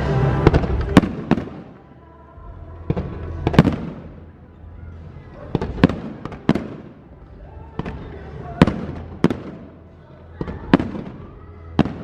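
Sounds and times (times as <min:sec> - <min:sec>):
fireworks bangs with echo: 0:00.0 - 0:01.8, 0:02.8 - 0:04.4, 0:05.4 - 0:12.0.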